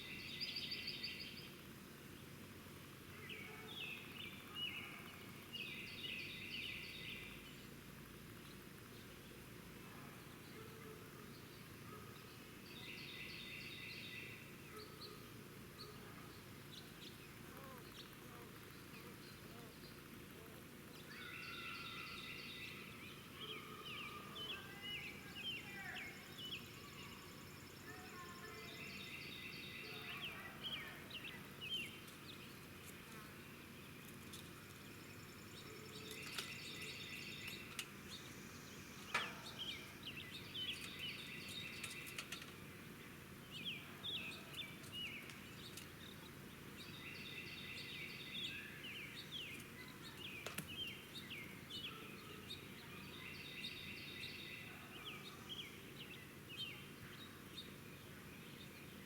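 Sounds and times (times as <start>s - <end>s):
low steady background noise: 0.0s - 59.0s
songbirds chirping: 0.0s - 59.0s.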